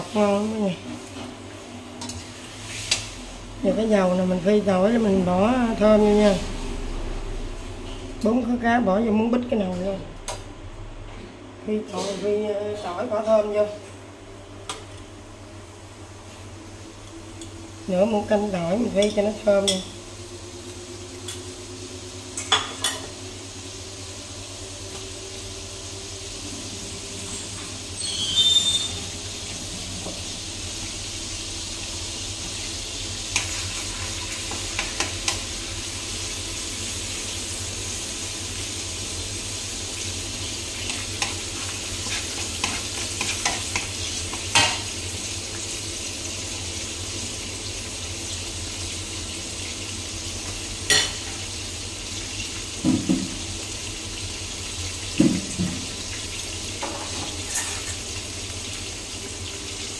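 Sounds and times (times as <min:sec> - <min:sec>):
garlic sizzling in hot oil: 0:00.0 - 0:08.6, 0:14.6 - 0:59.9.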